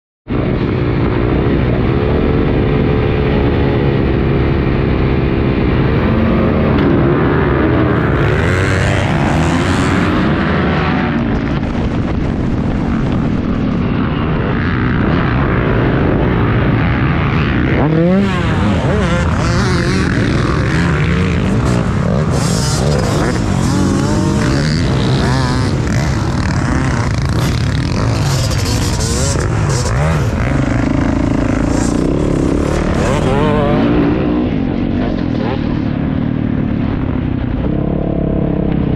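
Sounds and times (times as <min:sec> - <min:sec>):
motocross bike engines revving: 0:00.3 - 0:38.9.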